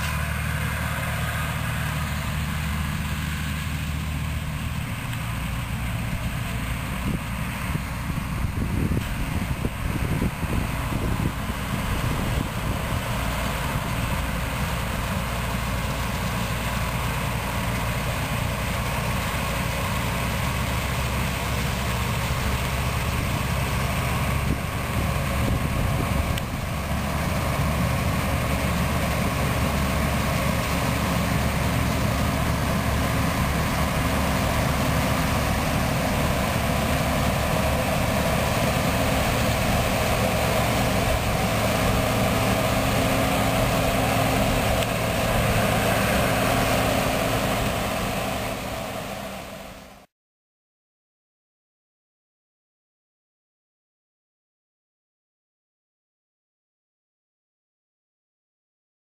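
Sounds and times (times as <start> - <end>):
farm machinery engine drone: 0.0 - 50.1.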